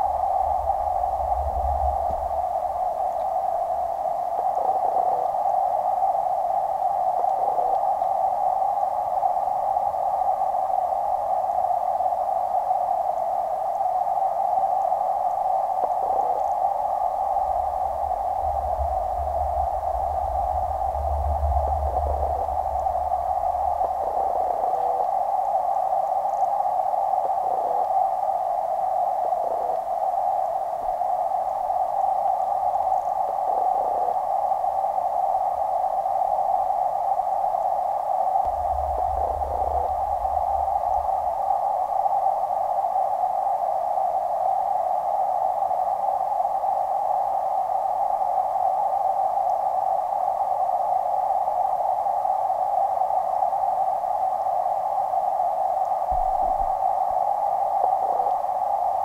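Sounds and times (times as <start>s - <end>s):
muffled underwater noise: 0.0s - 59.0s.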